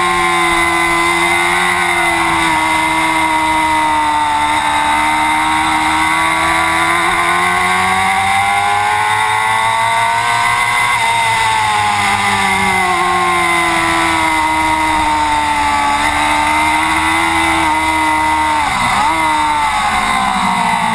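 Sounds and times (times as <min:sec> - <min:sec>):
motorcycle engine at high revs: 0:00.0 - 0:20.9.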